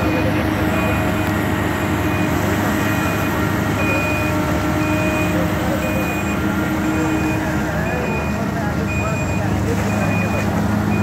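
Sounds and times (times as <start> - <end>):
back-up alarm beeping: 0.0 - 1.3, 2.0 - 11.0
excavator diesel engine: 0.0 - 11.0.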